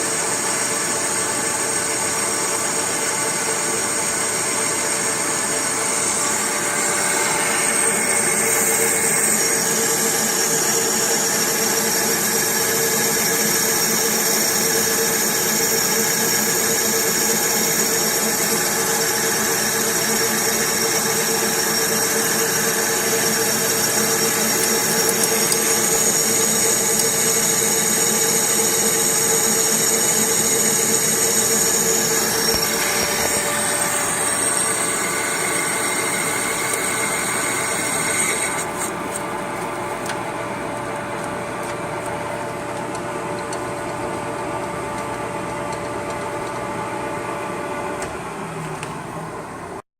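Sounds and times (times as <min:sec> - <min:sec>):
punch press humming and whining: 0:00.0 - 0:49.8.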